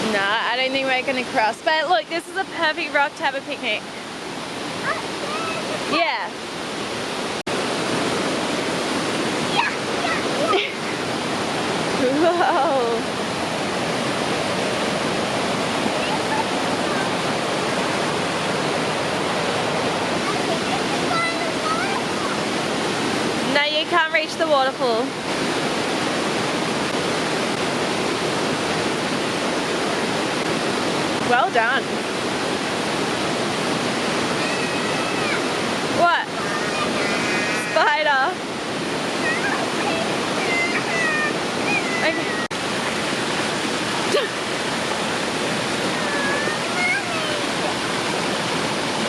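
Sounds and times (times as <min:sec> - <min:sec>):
fast-flowing creek rushing: 0:00.0 - 0:49.0.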